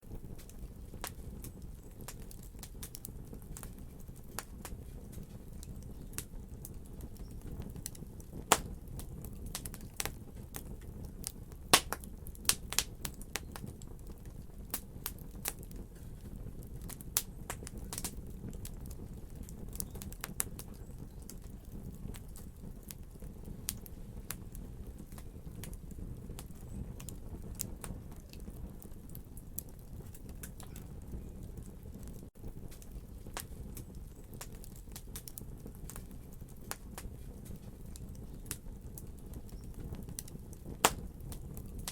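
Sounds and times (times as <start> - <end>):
fire rumbling: 0.0 - 41.9
logs crackling and popping: 0.0 - 41.9.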